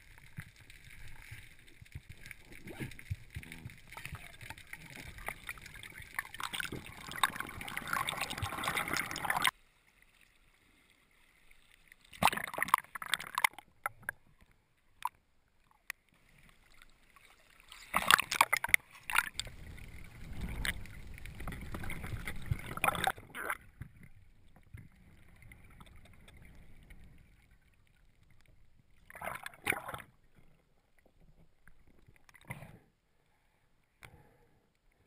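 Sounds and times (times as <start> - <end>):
muffled underwater water rushing: 0.0 - 15.1, 16.0 - 32.8.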